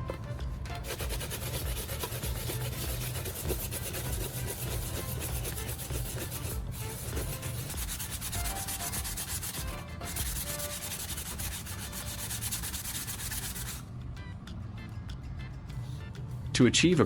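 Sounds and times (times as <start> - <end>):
sandpaper scratching: 0.0 - 13.9.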